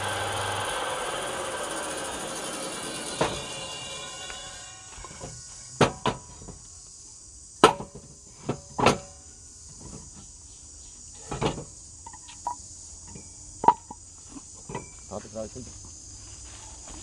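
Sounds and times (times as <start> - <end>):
insects buzzing: 0.0 - 7.6, 9.2 - 17.0.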